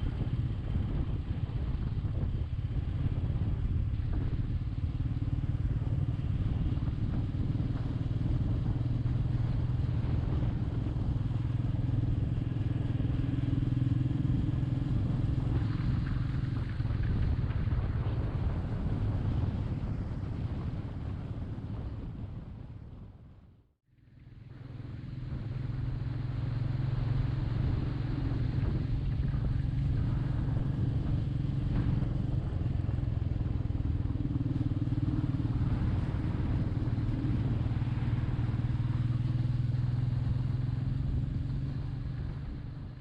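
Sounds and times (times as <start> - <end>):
motorcycle engine running: 0.0 - 23.0, 24.0 - 43.0.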